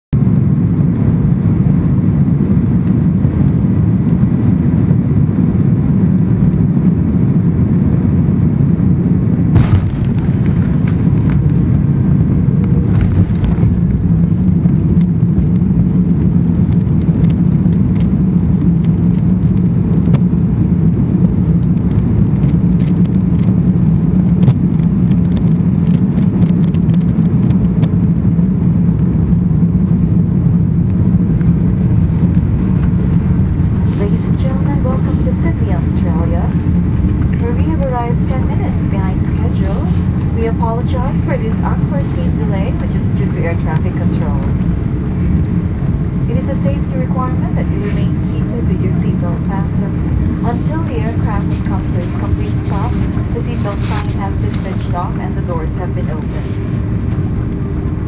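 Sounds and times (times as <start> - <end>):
engine and wheel rumble: 0.1 - 58.0.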